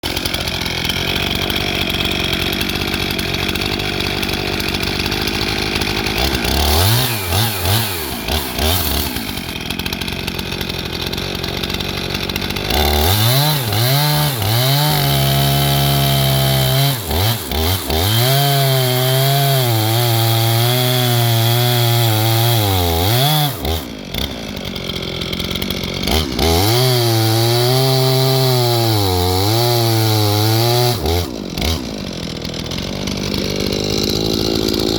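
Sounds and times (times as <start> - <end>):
chainsaw cutting into tree: 0.0 - 34.9.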